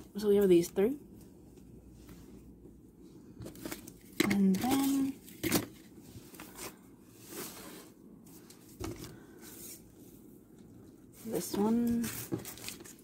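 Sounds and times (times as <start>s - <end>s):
plastic sleeves rustling: 0.1s - 13.0s.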